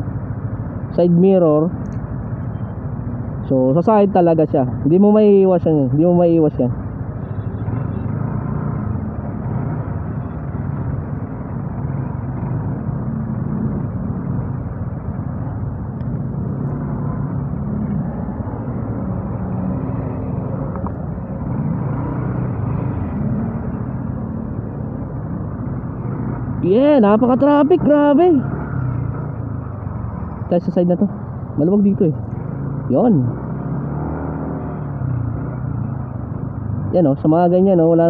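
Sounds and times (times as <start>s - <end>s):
motorcycle engine at low speed: 0.0s - 38.0s
traffic drone and road noise: 0.0s - 38.0s.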